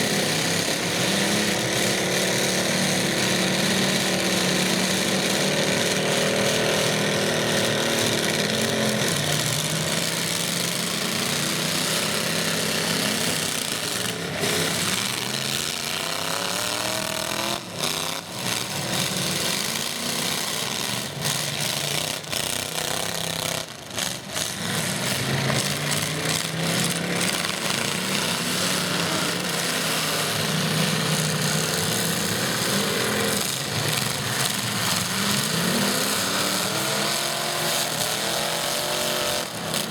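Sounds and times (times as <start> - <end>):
truck engines revving: 0.0 - 39.9.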